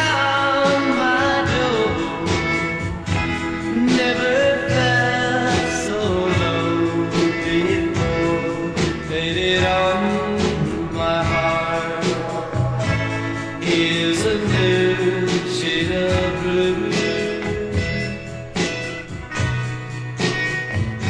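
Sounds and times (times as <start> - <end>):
male lead vocal: 0.0 - 19.3
electric guitars: 0.0 - 21.0
steady drum beat: 0.0 - 21.0.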